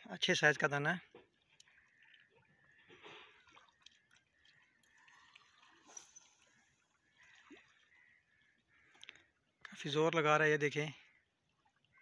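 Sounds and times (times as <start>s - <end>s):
water lapping and dripping: 0.0s - 12.0s.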